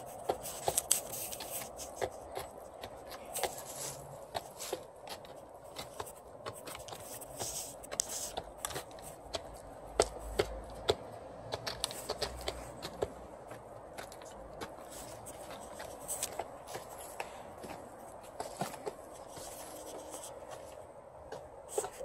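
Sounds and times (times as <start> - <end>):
beaks pecking plastic feeder: 0.0 - 20.6.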